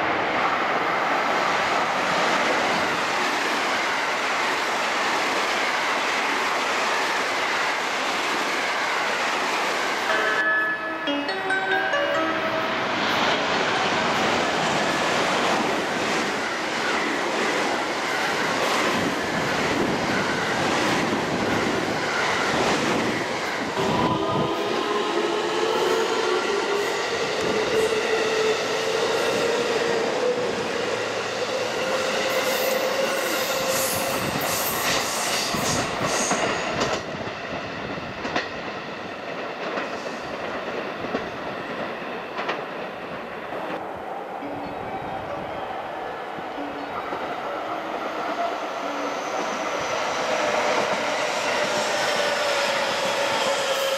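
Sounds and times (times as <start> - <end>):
train wheel and rail noise: 0.0 - 53.9.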